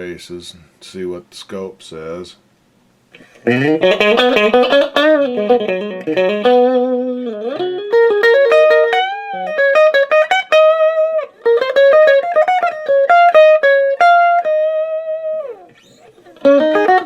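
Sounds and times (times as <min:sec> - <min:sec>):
electric guitar lead lines: 0:03.1 - 0:17.0.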